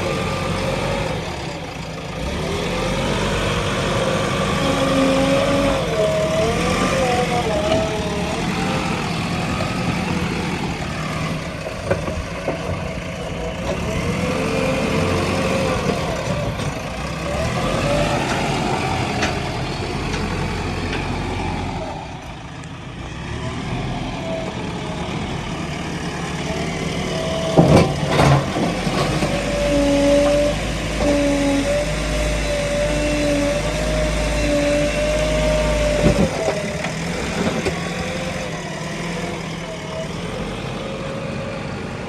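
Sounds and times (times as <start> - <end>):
backhoe diesel engine running: 0.0 - 42.0.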